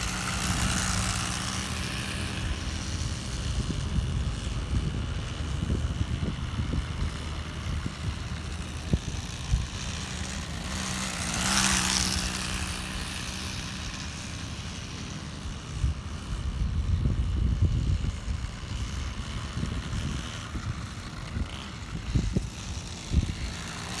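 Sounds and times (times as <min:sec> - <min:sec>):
small gasoline engine buzzing: 0:00.0 - 0:24.0.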